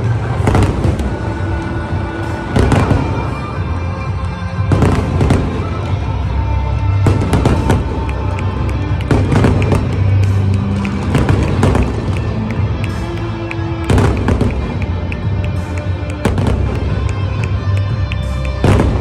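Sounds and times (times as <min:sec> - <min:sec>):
fireworks bursting and crackling: 0:00.0 - 0:19.0
music playing: 0:00.0 - 0:19.0.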